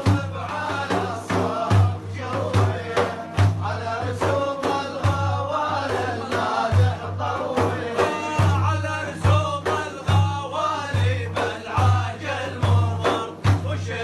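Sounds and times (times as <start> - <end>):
deep drum beat: 0.0 - 14.0
man singing praise song: 0.0 - 14.0.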